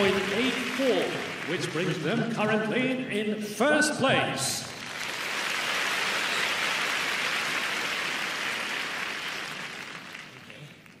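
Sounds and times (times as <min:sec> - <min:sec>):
crowd applauding: 0:00.0 - 0:02.9, 0:04.6 - 0:11.0.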